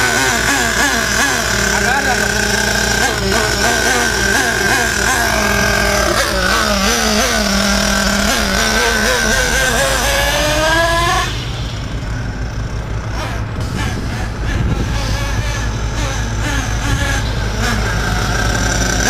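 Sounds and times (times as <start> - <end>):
nitro engine revving: 0.0 - 19.0.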